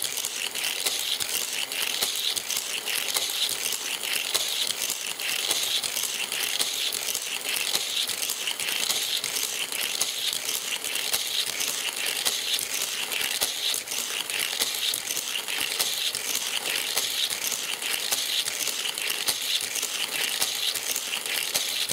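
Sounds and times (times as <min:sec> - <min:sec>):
toy cars rolling on plastic track: 0:00.0 - 0:21.9.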